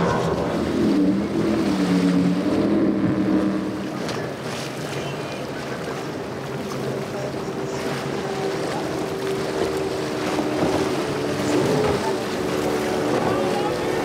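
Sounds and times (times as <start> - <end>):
hull punching through waves: 0.0 - 14.0
outboard motor drone: 0.0 - 14.0
rush of spray and wind: 0.0 - 14.0.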